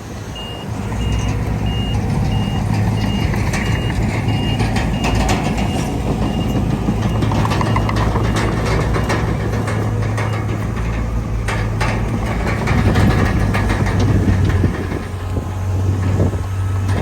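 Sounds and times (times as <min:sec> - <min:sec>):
bulldozer diesel engine running: 0:00.0 - 0:17.0
steel tracks clanking: 0:00.0 - 0:17.0.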